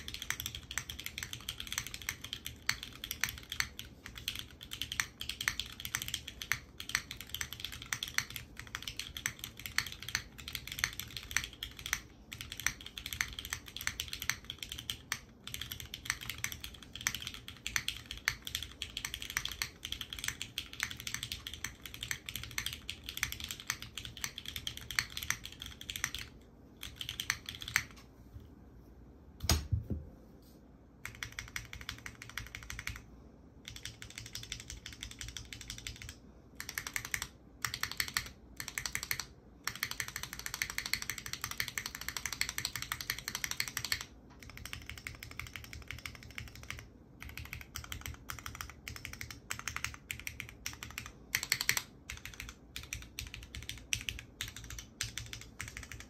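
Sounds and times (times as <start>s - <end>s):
mechanical keyboard typing: 0.0s - 28.0s, 31.0s - 56.0s.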